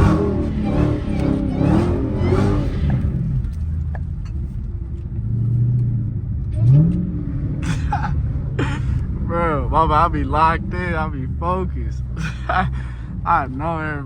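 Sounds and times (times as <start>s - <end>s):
engine revving: 0.0s - 4.2s, 5.2s - 14.0s
car engine while driving: 0.0s - 14.0s.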